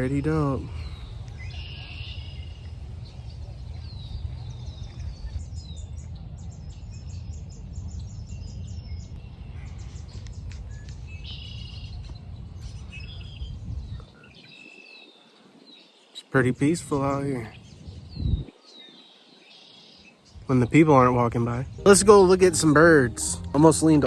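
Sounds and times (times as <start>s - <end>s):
small birds chirping and singing: 0.0s - 24.0s.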